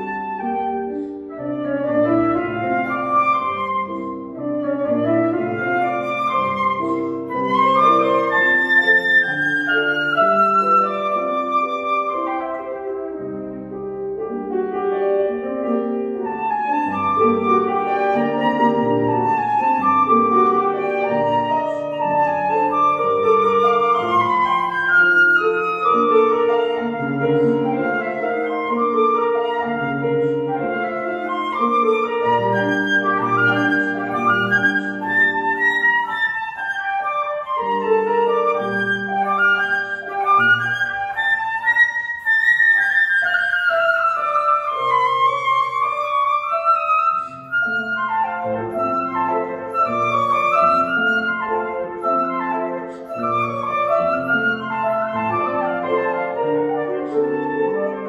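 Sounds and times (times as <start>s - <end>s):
flute melody: 0.0s - 58.0s
grand piano accompaniment: 0.0s - 58.0s.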